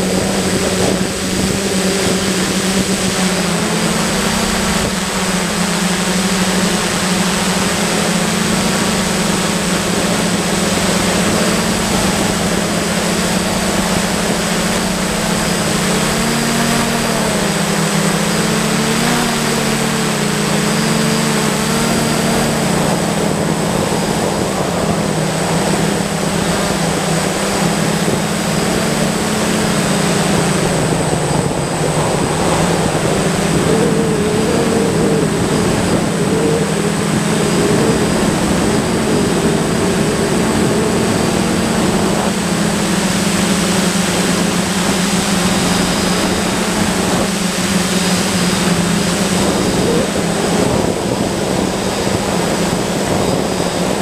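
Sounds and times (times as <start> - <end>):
drone motors buzzing: 0.0 - 54.0
high whine: 0.0 - 54.0.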